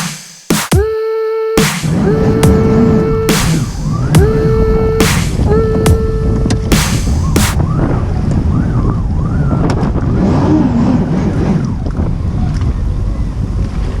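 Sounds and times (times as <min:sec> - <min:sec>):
wind on microphone: 0:01.9 - 0:14.0.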